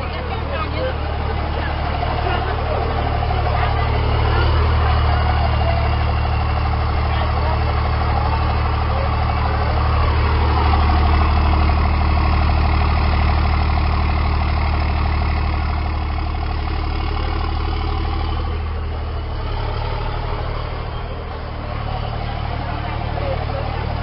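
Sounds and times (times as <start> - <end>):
diesel truck engines idling: 0.0 - 24.0.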